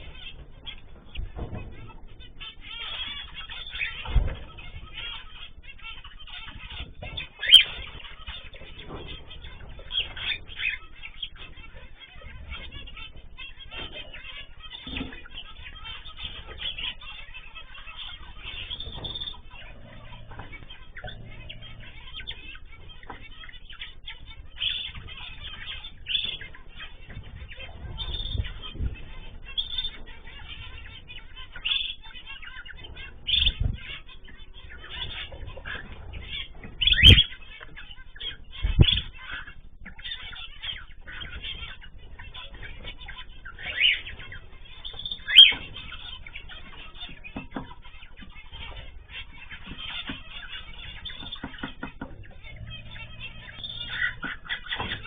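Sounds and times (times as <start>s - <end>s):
cage birds chirping: 0.0s - 55.0s.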